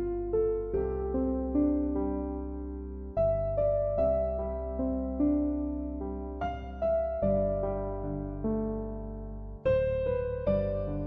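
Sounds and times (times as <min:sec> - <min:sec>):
electric piano melody: 0:00.0 - 0:11.0.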